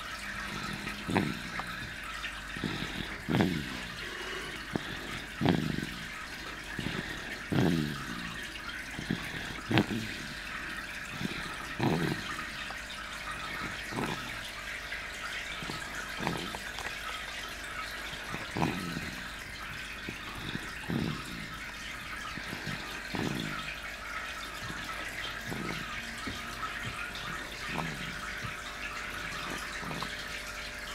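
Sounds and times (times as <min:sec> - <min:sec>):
low snoring: 0:00.0 - 0:30.5.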